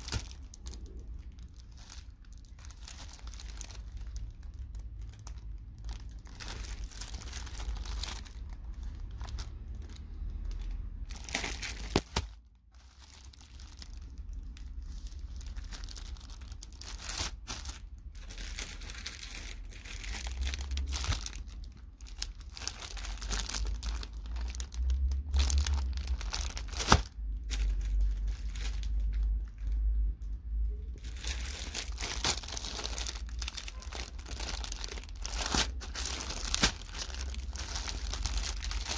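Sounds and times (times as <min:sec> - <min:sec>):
plastic packaging crinkling: 0:00.0 - 0:38.9.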